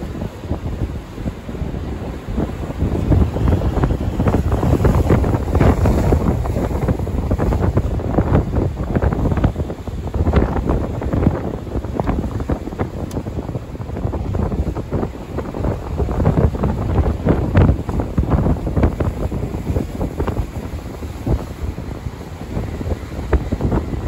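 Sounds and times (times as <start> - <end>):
breaking surf: 0.0 - 24.0
gusty wind buffeting microphone: 0.0 - 24.0.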